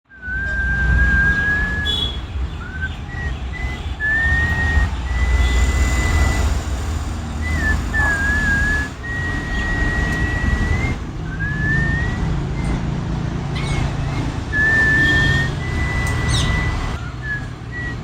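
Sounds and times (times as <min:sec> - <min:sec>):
parrots whistling: 0:00.3 - 0:18.0.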